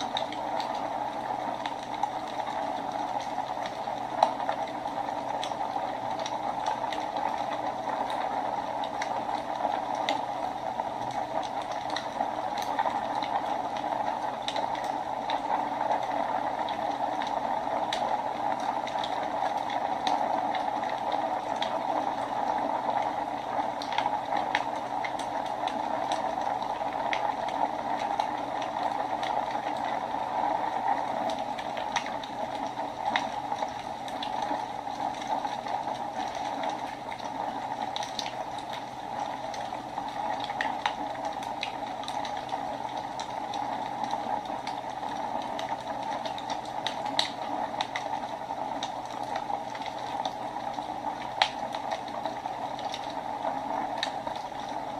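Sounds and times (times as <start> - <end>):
fire crackles and pops: 0.0 - 54.9.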